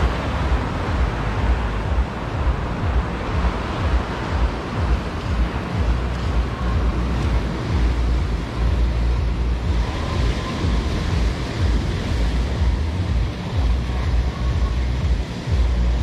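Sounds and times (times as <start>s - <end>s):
surf breaking on sandy beach: 0.0s - 16.0s
wind buffeting microphone: 0.0s - 16.0s.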